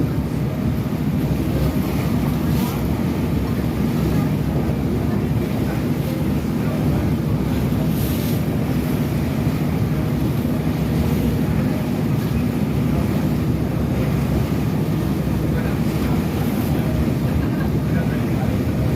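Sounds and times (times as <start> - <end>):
boat engine humming: 0.0 - 18.9.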